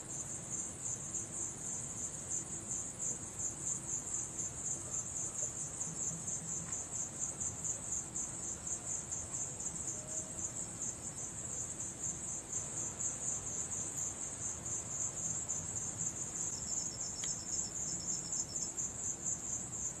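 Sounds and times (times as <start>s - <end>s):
crickets chirping: 0.0s - 20.0s
lower-pitched insect: 0.0s - 20.0s.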